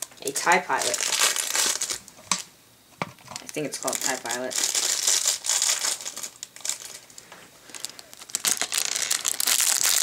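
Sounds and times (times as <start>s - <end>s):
plastic bag crinkling: 0.0s - 2.5s, 3.2s - 10.0s.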